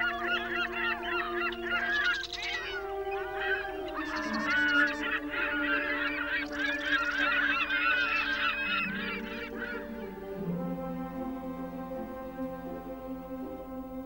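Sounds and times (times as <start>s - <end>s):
gulls calling: 0.0s - 14.0s
soft background music: 0.0s - 14.0s.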